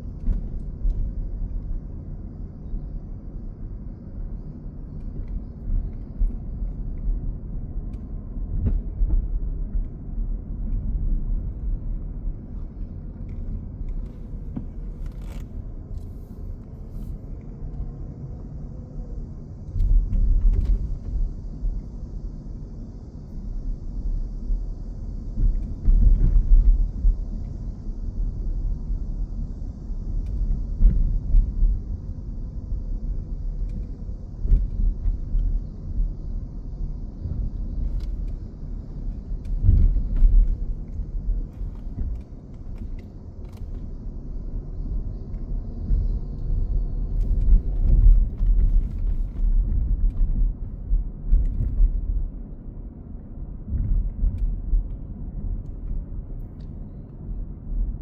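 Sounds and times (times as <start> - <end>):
low uneven rumble: 0.0 - 58.0.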